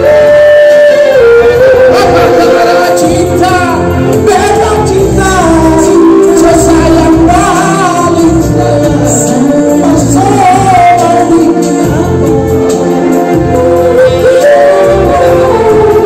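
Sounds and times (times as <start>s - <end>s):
amplified backing music: 0.0s - 16.0s
man and woman singing duet: 0.0s - 16.0s.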